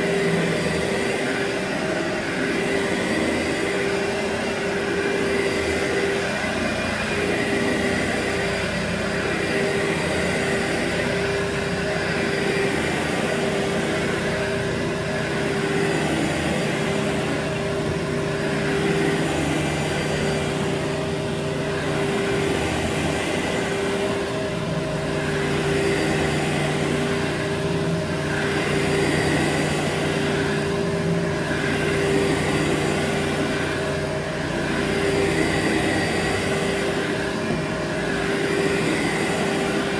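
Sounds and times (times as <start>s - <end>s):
carpet cleaning machine running: 0.0s - 39.9s.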